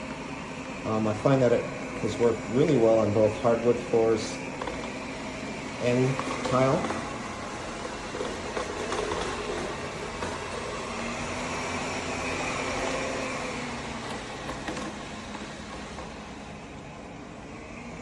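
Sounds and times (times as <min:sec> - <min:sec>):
robot vacuum cleaner whirring: 0:00.0 - 0:18.0.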